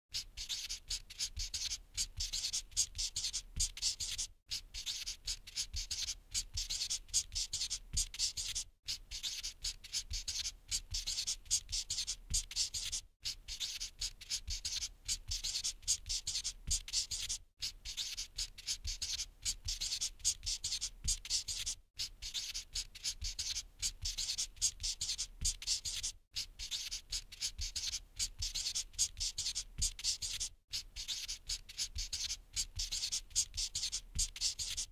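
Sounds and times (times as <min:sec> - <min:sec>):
marker scribbling on whiteboard: 0:00.1 - 0:34.9.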